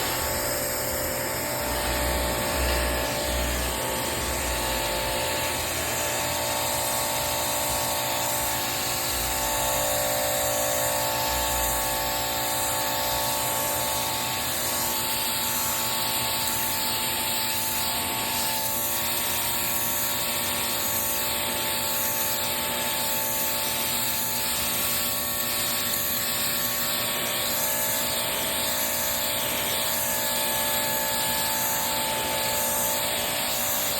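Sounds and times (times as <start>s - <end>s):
machine drone: 0.0s - 33.9s
pressure washer spray hissing: 0.0s - 33.9s.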